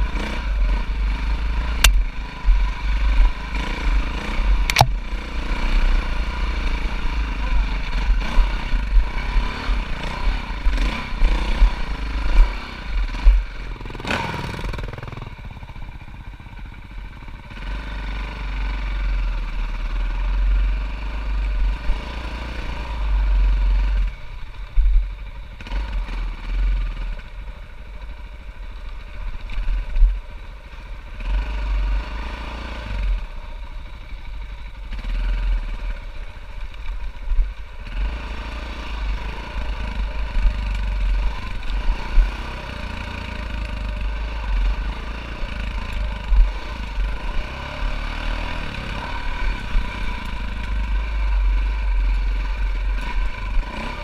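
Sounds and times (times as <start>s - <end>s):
dirt bike engine revving: 0.0s - 27.4s, 31.1s - 54.0s.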